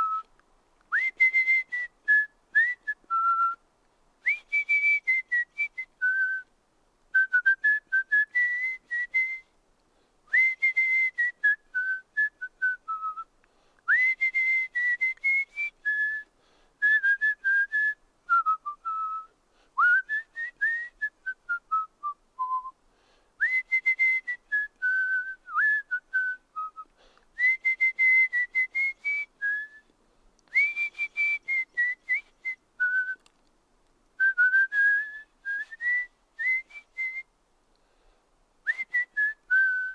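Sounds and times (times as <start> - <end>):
person whistling: 0.0 - 0.3, 0.9 - 3.6, 4.2 - 6.5, 7.2 - 9.5, 10.3 - 13.3, 13.9 - 22.8, 23.4 - 29.9, 30.5 - 33.3, 34.2 - 37.3, 38.7 - 39.9.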